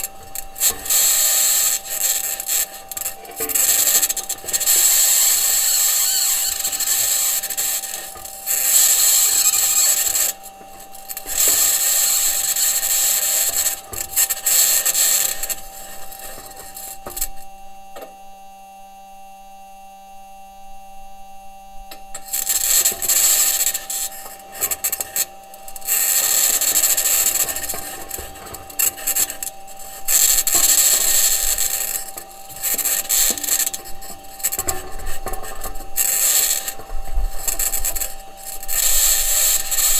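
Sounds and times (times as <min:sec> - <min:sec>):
wheels grinding over rocky ground: 0:00.0 - 0:17.5, 0:21.9 - 0:39.9
steady high hum: 0:00.0 - 0:39.9.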